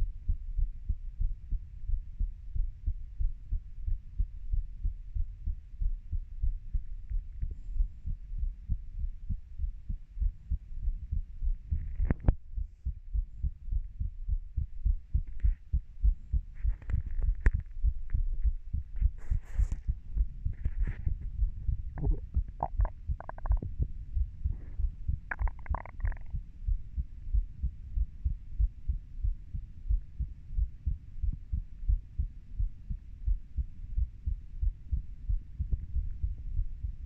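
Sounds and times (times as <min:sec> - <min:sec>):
heartbeat: 0:00.0 - 0:37.0.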